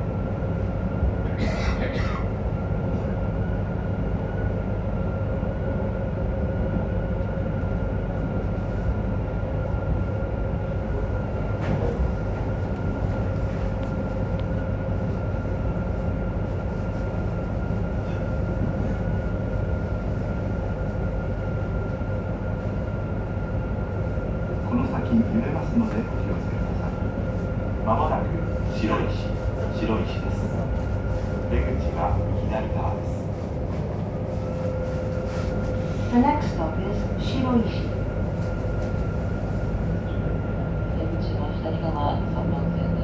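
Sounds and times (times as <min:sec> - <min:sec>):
train rolling rumble: 0:00.0 - 0:43.0.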